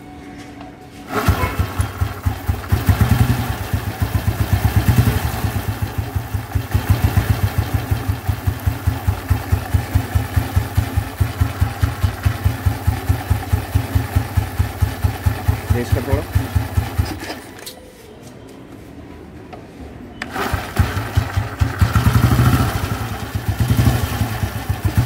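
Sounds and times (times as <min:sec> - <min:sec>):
motorcycle engine idling: 0:01.1 - 0:17.4, 0:20.3 - 0:25.0.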